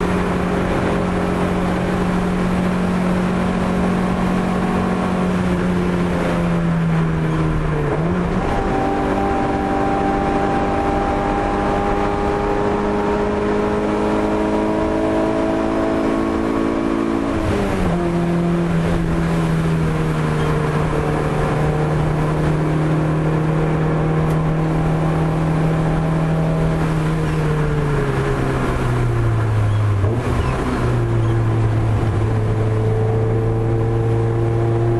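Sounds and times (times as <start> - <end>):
car engine running hard: 0.0 - 34.9.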